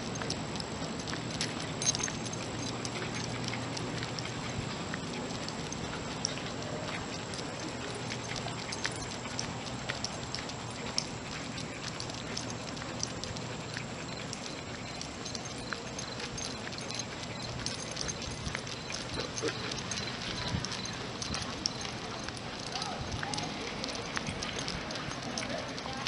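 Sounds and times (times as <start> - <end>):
footsteps on asphalt: 0.0 - 26.0.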